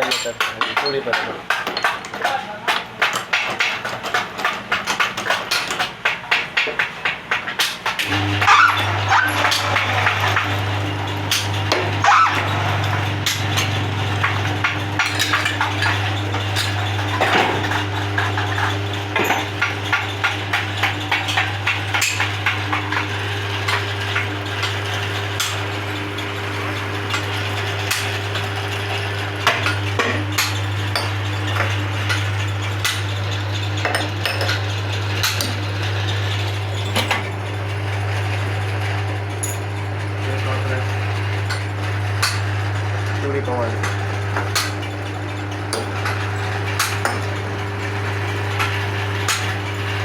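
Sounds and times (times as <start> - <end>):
lathe humming: 8.0 - 50.0.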